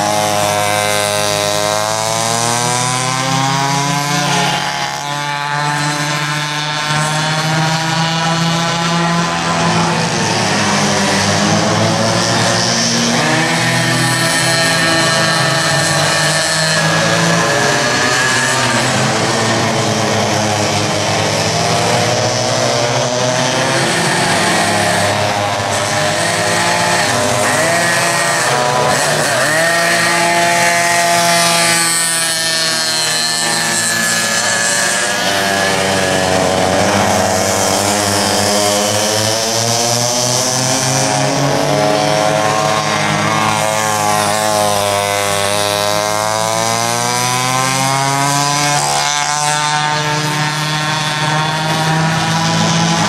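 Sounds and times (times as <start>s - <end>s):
kart engines buzzing: 0.0s - 53.0s.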